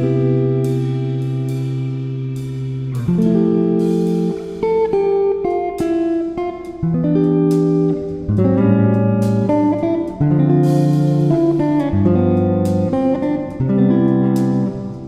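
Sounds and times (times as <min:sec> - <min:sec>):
plucked guitar notes: 0:00.0 - 0:15.0.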